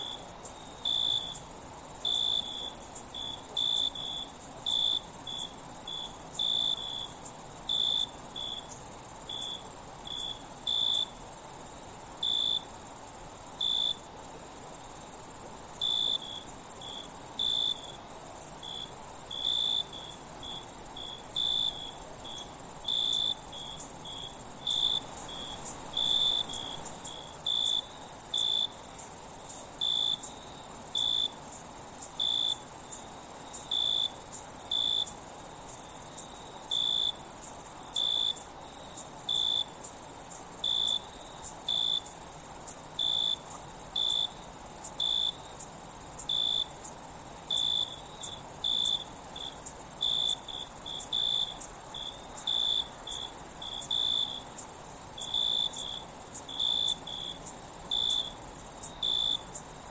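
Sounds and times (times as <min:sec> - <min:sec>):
cricket chirps: 0:00.0 - 0:59.9.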